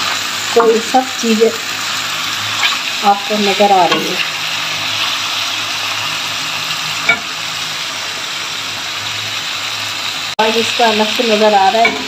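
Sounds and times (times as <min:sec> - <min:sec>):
curry sizzling in pot: 0:00.0 - 0:12.0.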